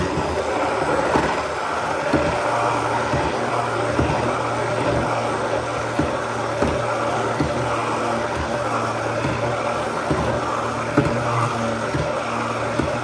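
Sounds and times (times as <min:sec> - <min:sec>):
hand blender motor running: 0:00.0 - 0:13.0.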